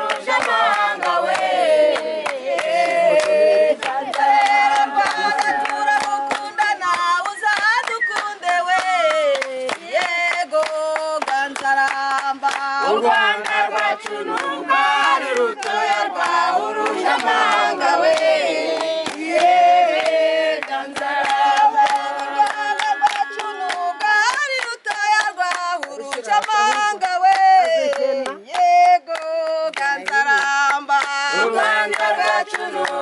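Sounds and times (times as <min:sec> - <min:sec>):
group singing together: 0:00.0 - 0:33.0
hands clapping: 0:00.0 - 0:33.0.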